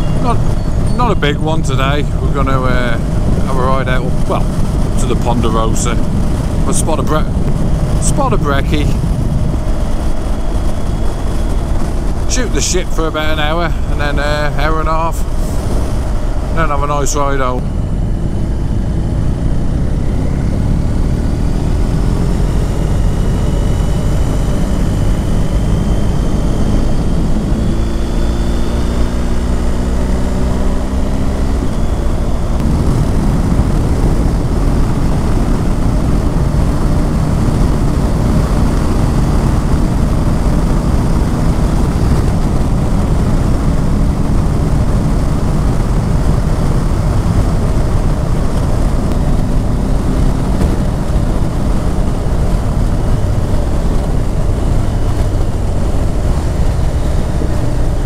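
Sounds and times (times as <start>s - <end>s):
motorcycle engine: 0.0s - 58.0s
wind and road rush: 0.0s - 58.0s.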